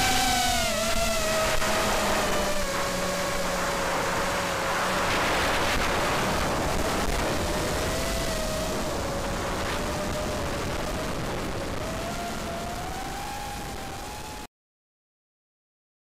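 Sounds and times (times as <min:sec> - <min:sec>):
wind noise: 0:00.0 - 0:14.4
electric motor and propeller whine: 0:00.0 - 0:14.5.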